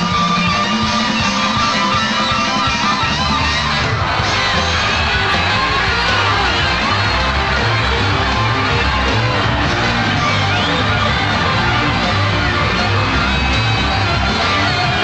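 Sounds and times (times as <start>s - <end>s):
bass guitar: 0.0s - 15.0s
drums: 0.0s - 15.0s
electric lead guitar bending notes: 1.4s - 15.0s.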